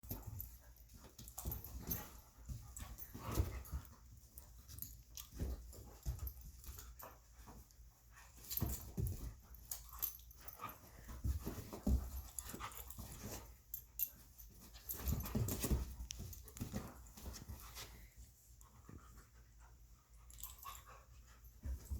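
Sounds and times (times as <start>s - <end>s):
puppies panting: 0.0s - 21.9s
puppies scuffling: 0.0s - 21.9s.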